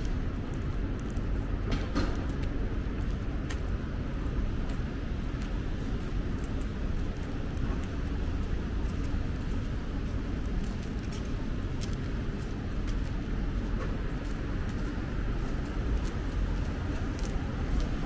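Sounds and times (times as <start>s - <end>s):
low rumble of traffic: 0.0s - 18.0s.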